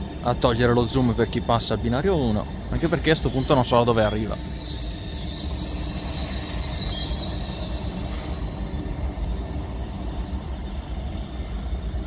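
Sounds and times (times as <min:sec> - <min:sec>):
train rumbling along tracks: 0:00.0 - 0:12.0
high wheel squeal: 0:02.2 - 0:12.0.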